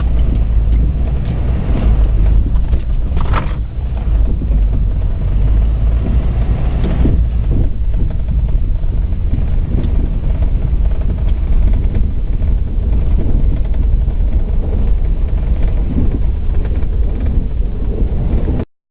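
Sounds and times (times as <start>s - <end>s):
vehicle driving rumble: 0.0s - 18.7s.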